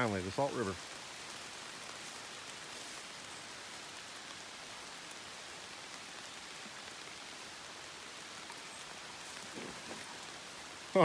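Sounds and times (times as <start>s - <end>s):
rain falling on leaves: 0.0s - 11.0s.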